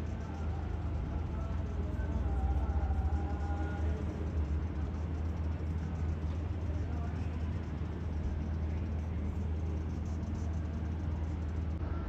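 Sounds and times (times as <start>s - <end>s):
faint distant voices: 0.0s - 12.0s
low rumble of harbour ambience: 0.0s - 12.0s.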